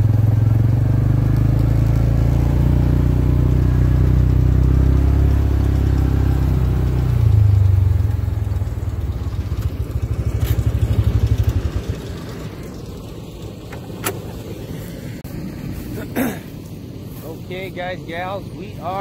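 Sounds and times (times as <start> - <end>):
tractor engine running under load: 0.0 - 15.9.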